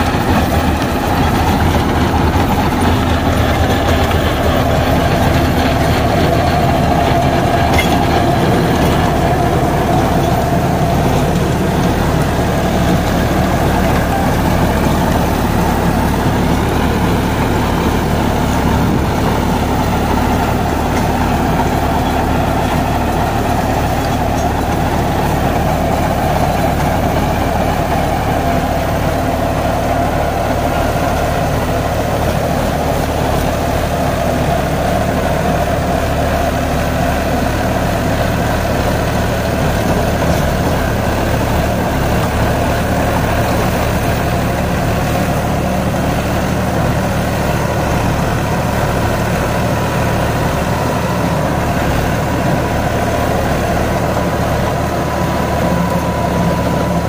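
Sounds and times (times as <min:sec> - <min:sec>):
rotary tiller through soil: 0:00.0 - 0:57.0
tractor running under load: 0:00.0 - 0:57.0.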